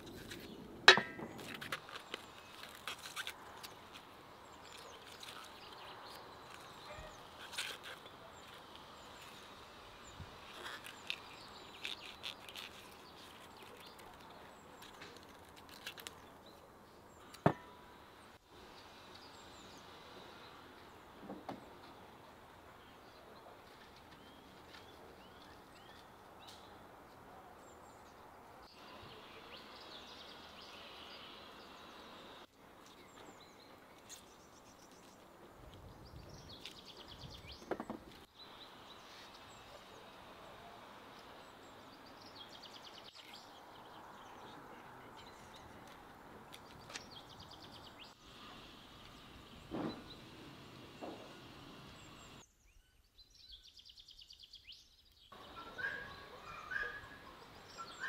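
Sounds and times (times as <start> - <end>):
birds chirping: 0.3 - 58.0.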